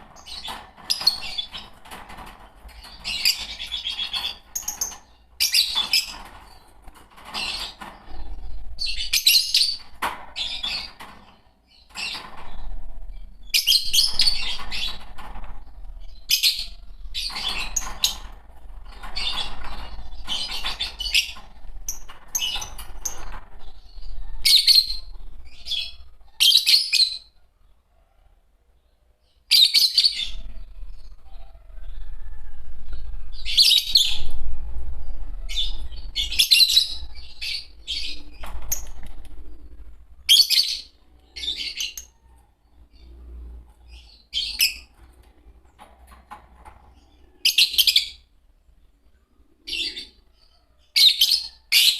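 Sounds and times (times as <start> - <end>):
lovebirds chirping and chattering: 0.0 - 51.9.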